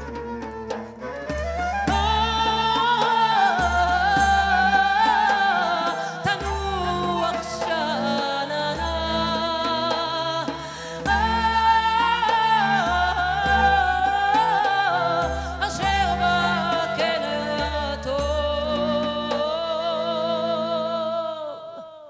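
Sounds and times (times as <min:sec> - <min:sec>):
goblet drum strokes: 0:00.0 - 0:20.0
woman singing with vibrato: 0:01.5 - 0:22.0.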